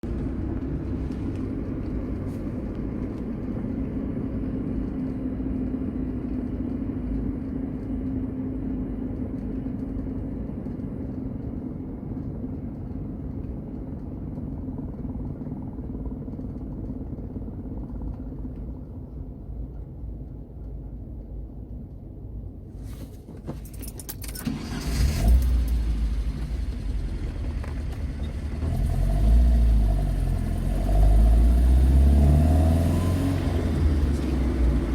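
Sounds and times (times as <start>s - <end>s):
car driveline drone and hum: 0.0s - 34.9s.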